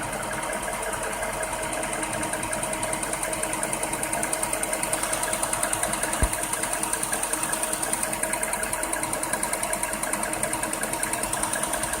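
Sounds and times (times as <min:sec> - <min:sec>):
car engine idling: 0:00.0 - 0:12.0
fast even engine ticking: 0:00.0 - 0:12.0.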